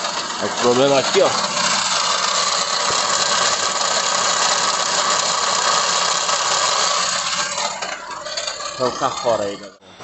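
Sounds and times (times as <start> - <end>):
starter motor grinding whir: 0.0 - 9.8
engine running: 0.0 - 10.0.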